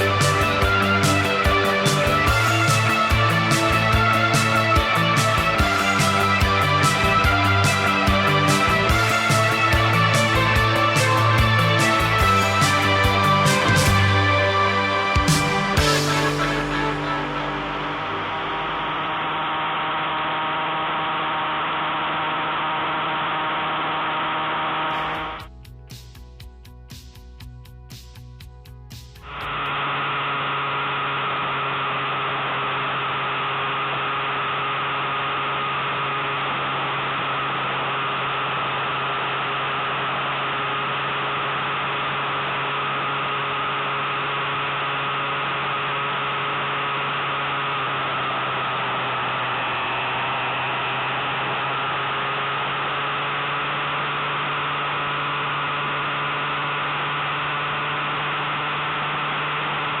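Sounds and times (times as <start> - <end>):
motorcycle engine droning: 0.0 - 25.5, 29.2 - 60.0.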